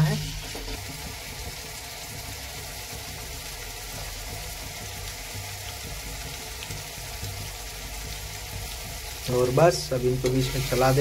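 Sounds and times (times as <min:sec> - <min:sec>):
vegetables frying in oil: 0:00.0 - 0:11.0.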